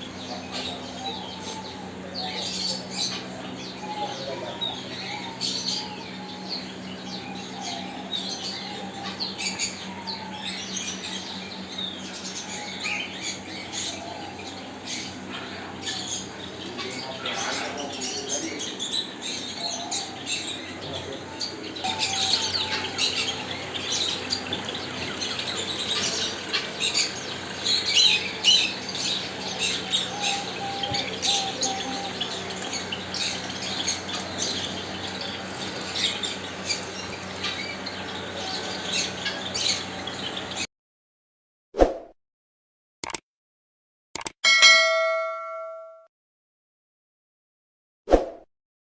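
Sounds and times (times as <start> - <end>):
small birds chirping and squawking: 0.0 - 40.7
steady low hum: 0.0 - 40.7.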